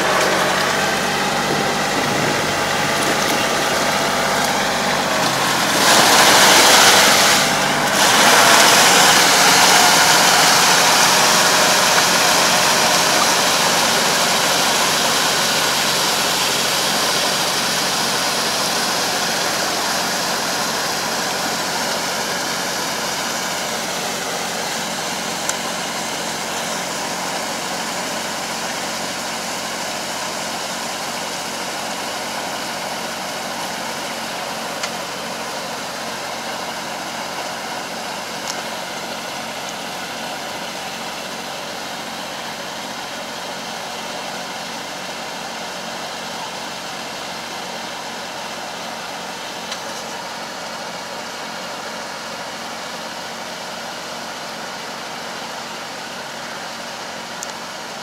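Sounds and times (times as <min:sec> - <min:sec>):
harrow churning muddy water: 0:00.0 - 0:58.0
tractor engine running: 0:00.0 - 0:58.0.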